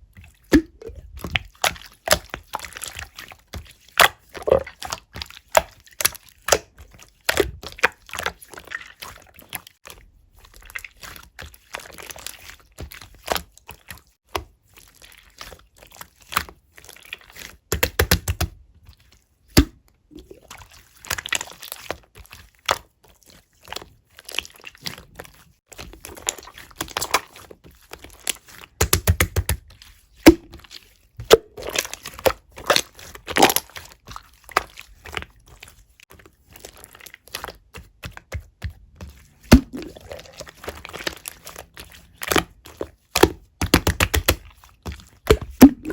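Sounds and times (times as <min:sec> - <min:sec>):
wet slime squishing: 0:00.0 - 0:45.9.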